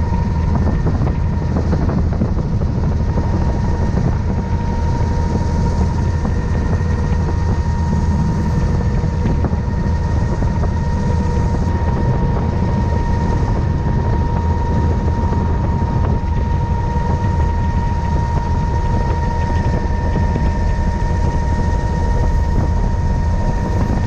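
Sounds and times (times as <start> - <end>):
helicopter rotor and engine din: 0.0 - 24.0
high whine: 0.0 - 24.0.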